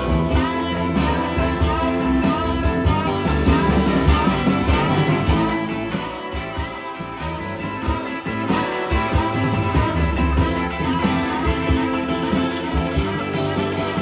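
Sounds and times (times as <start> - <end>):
music with a steady beat: 0.0 - 14.0.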